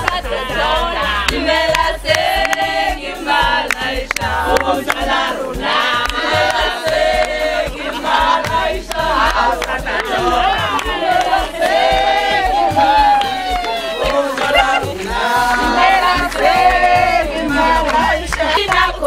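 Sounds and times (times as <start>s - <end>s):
handclaps: 0.0s - 0.4s, 1.1s - 19.0s
women singing together: 0.0s - 19.0s.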